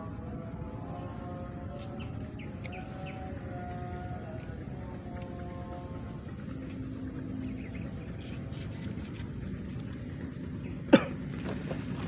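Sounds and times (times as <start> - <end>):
held low hum: 0.0 - 12.0
low outdoor rumble: 0.0 - 12.0.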